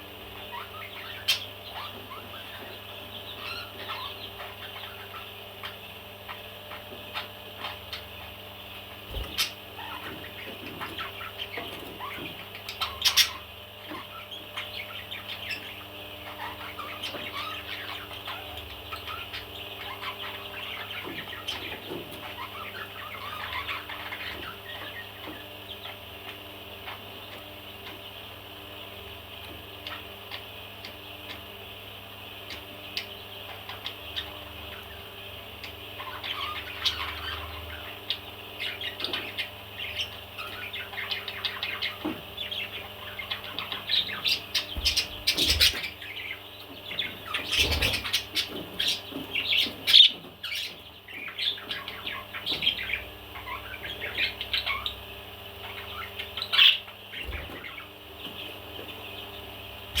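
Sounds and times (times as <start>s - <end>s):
parrots chirping and squawking: 0.3s - 28.7s, 32.4s - 60.0s.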